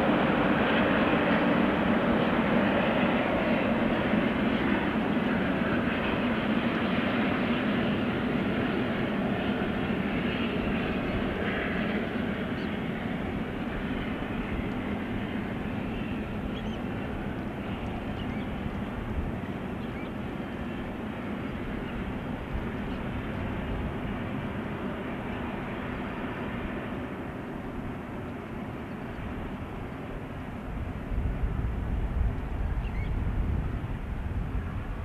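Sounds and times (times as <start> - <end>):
distant steam train rumble: 0.0 - 35.0.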